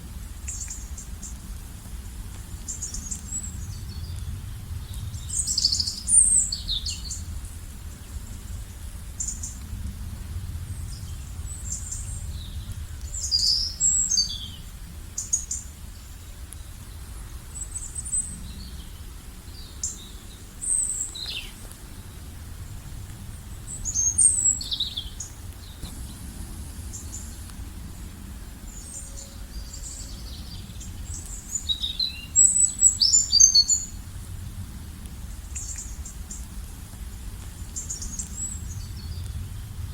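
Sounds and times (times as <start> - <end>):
songbirds chirping: 0.0 - 39.9
steady low rumble: 0.0 - 39.9.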